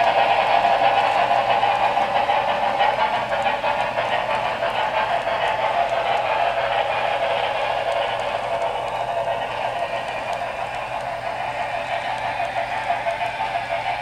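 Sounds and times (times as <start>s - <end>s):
model train wheels rolling: 0.0s - 14.0s.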